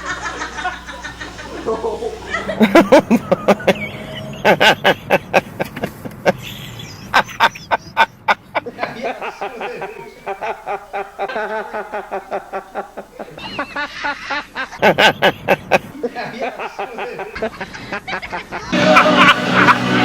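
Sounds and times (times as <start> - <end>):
man laughing with wheezing cackles: 0.0 - 20.0.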